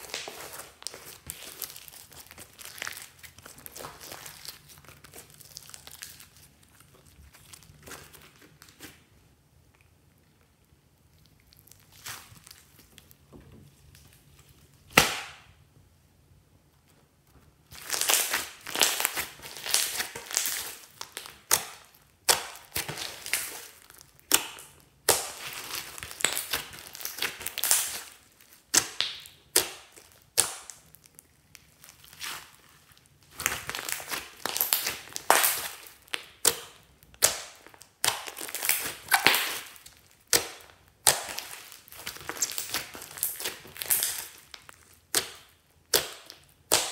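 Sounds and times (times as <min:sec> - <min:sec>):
slime squishing and popping: 0:00.0 - 0:09.0, 0:17.7 - 0:46.9.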